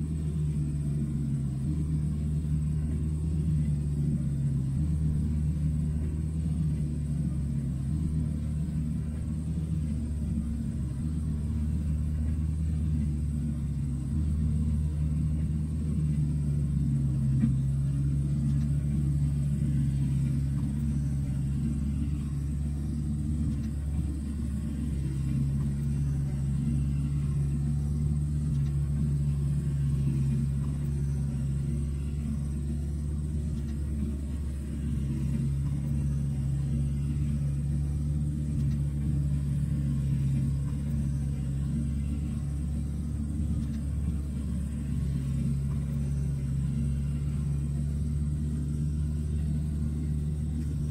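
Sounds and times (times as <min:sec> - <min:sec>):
diesel engine droning: 0:00.0 - 0:50.9.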